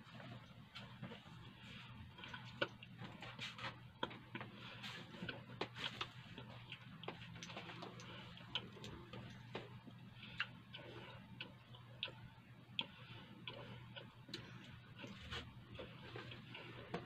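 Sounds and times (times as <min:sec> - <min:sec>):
low steady hum: 0:00.0 - 0:17.0
person chewing bread: 0:00.0 - 0:17.0.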